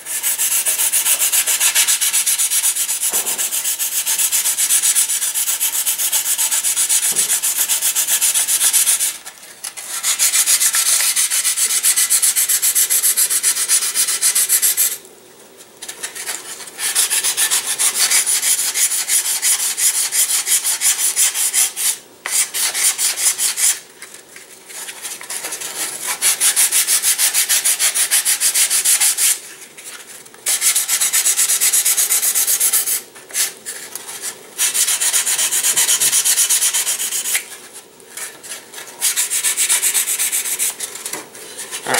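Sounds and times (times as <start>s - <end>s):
hand sanding wood: 0.0s - 15.0s, 15.9s - 23.8s, 24.7s - 41.9s.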